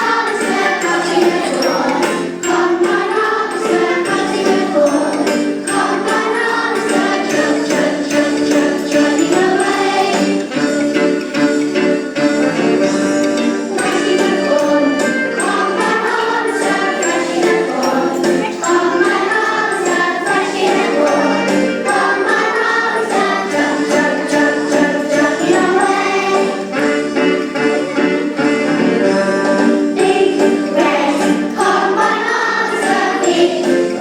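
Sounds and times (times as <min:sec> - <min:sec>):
group of voices singing: 0:00.0 - 0:10.9, 0:13.7 - 0:34.0
instrumental accompaniment: 0:00.0 - 0:34.0
jingling percussion beat: 0:00.0 - 0:34.0.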